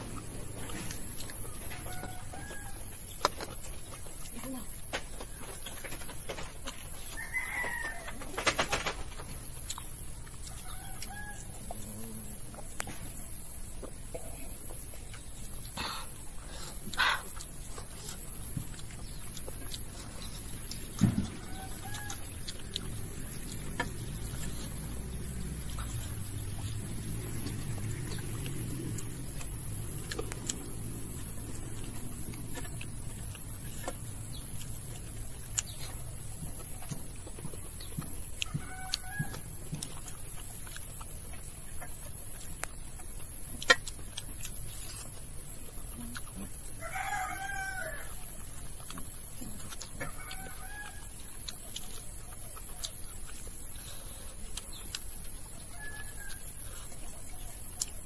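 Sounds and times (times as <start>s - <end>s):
person chewing: 0.0s - 7.7s, 9.4s - 58.0s
chickens clucking: 0.0s - 58.0s
low outdoor rumble: 0.0s - 58.0s.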